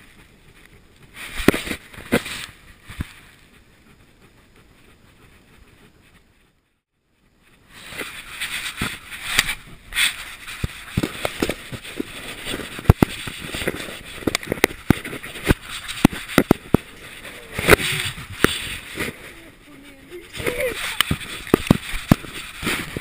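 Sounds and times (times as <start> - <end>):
rustling against fabric: 4.2 - 23.0.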